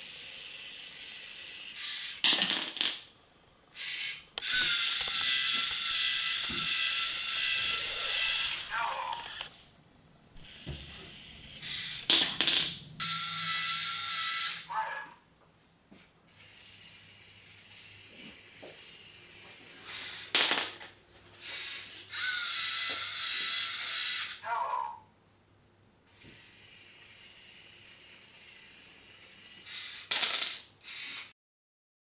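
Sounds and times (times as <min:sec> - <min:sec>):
motors and gears whirring: 0:00.0 - 0:02.2, 0:03.8 - 0:09.5, 0:10.4 - 0:15.2, 0:16.3 - 0:20.4, 0:21.4 - 0:25.0, 0:26.1 - 0:31.4.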